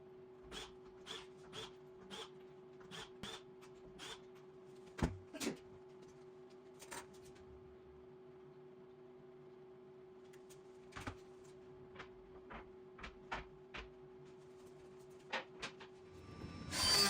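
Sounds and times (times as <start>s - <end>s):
faint steady hum: 0.0s - 15.3s.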